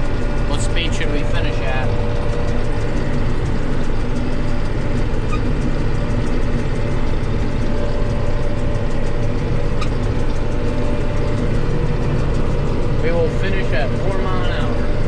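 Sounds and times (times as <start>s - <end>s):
combine harvester drone: 0.0s - 15.0s
faint steady whines: 0.0s - 15.0s.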